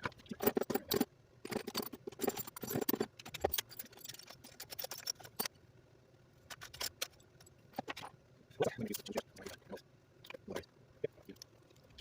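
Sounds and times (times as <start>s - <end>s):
small hard parts and tools rattling: 0.0s - 5.6s, 6.4s - 12.0s.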